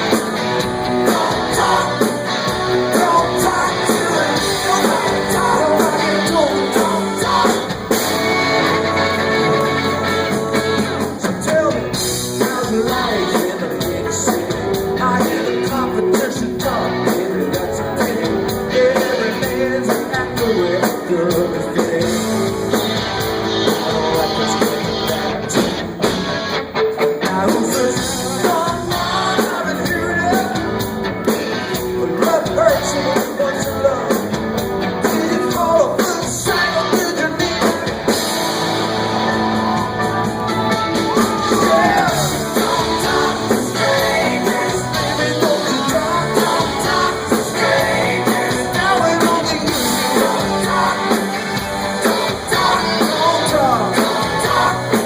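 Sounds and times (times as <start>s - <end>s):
rock music with singing: 0.0s - 55.0s.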